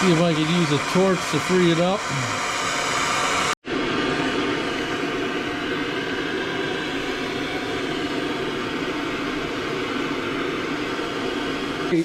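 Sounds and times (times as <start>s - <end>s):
gas torch hissing: 0.0s - 12.0s.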